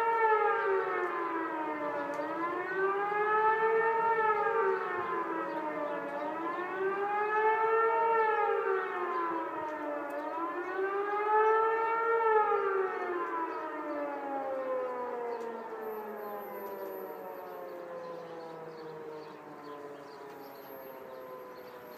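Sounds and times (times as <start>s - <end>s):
siren wailing: 0.0s - 21.9s.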